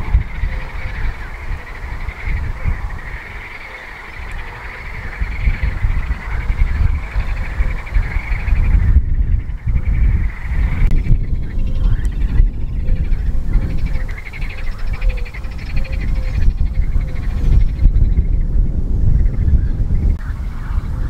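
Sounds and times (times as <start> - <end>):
uneven low rumble: 0.0 - 21.0.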